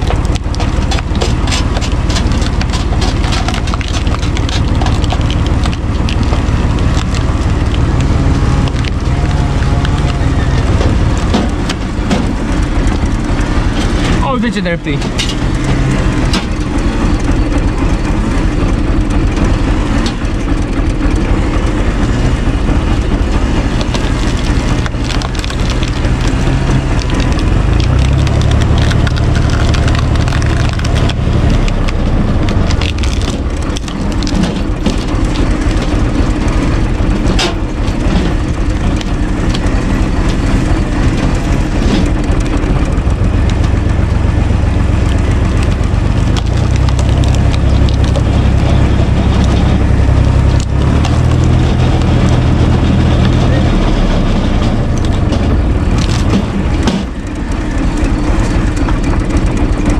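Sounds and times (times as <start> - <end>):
tractor engine running: 0.0 - 59.9
wood cracking and splintering: 0.0 - 59.9.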